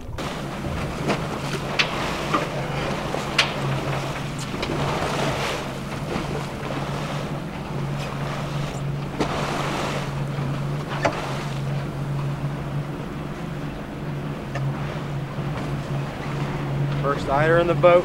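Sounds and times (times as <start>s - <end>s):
wind on microphone: 0.0s - 17.5s
boat motor humming: 0.0s - 18.0s
water washing around hull: 0.0s - 18.0s.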